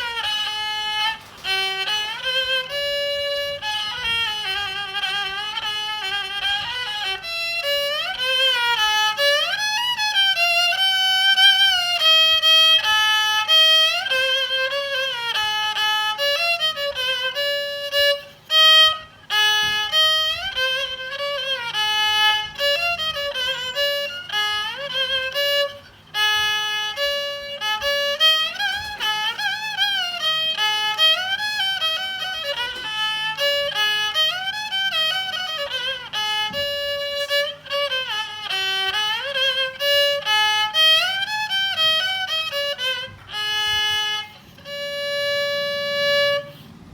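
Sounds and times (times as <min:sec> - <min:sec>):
bowed fiddle melody: 0:00.0 - 0:46.9.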